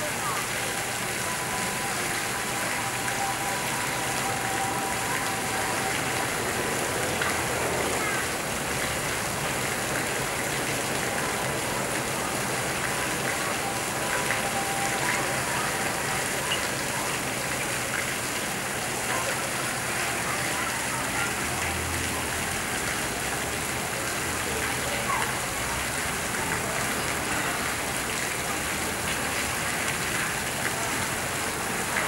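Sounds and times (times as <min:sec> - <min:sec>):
water spray splattering on pool: 0:00.0 - 0:32.0.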